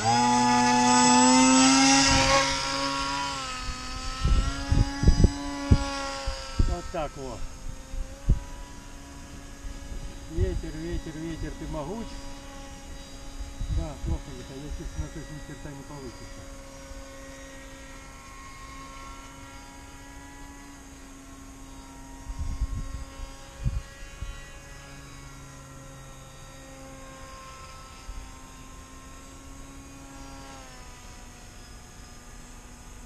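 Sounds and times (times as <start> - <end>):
model plane motor whining: 0.0 - 33.0.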